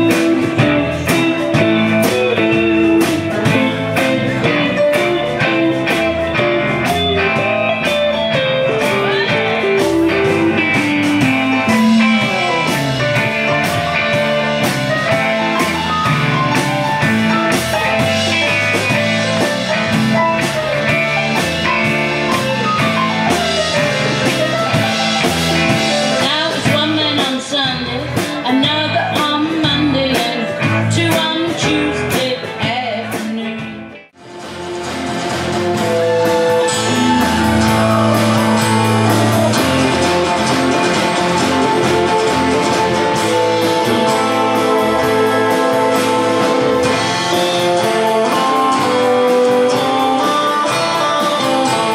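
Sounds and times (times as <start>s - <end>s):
guitar: 0.0s - 51.9s
live blues band playing: 0.0s - 51.9s.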